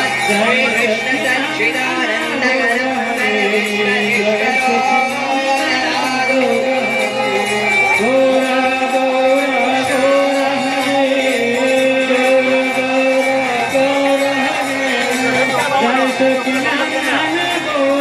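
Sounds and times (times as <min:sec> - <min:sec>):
instruments with steady beat: 0:00.0 - 0:18.0
voices singing long notes: 0:00.0 - 0:18.0.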